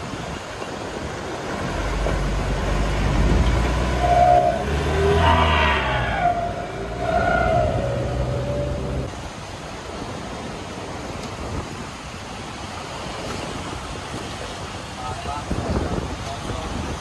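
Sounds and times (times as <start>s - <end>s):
wind and surf rushing: 0.0s - 17.0s.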